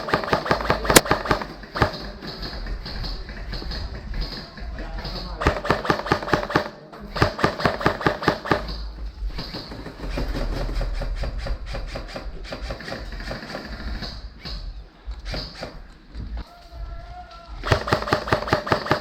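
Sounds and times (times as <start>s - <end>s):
airsoft gun full-auto burst: 0.0s - 14.4s, 17.6s - 19.0s
faint rattle of airsoft fire: 0.0s - 16.2s, 17.4s - 19.0s.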